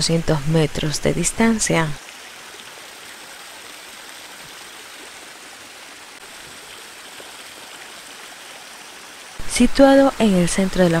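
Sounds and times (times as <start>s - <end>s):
small waterfall splashing: 0.4s - 11.0s.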